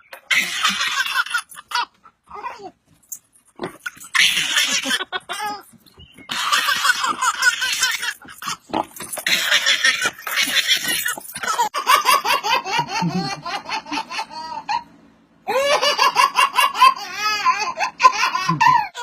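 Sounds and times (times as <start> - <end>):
baby laughing: 0.1 - 2.8, 3.6 - 14.9, 15.5 - 19.0.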